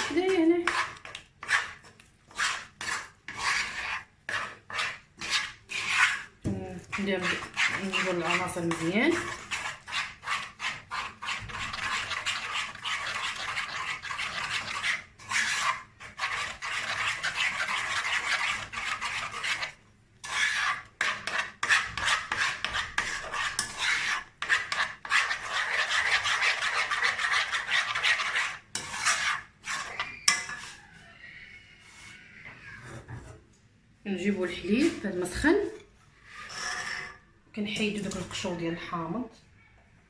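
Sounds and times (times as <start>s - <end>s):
whisk scraping against bowl: 0.0s - 31.0s, 34.5s - 38.6s.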